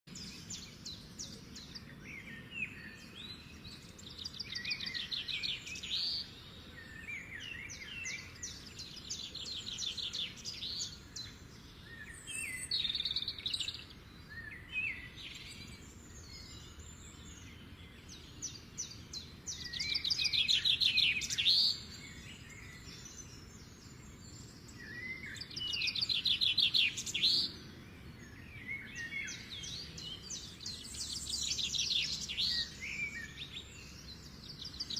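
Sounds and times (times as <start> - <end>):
songbirds trilling: 0.1 - 34.9.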